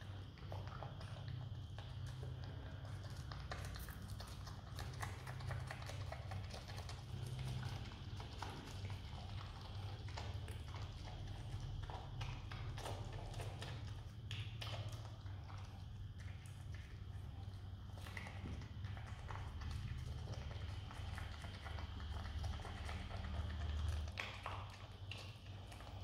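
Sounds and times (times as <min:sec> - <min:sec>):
animal chewing and mouth clicking: 0:00.0 - 0:26.0
steady low hum: 0:00.0 - 0:26.0.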